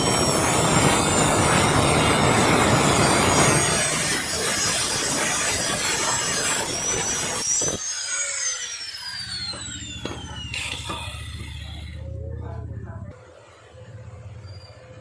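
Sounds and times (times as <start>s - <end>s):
high whistling tone: 0.0s - 12.3s.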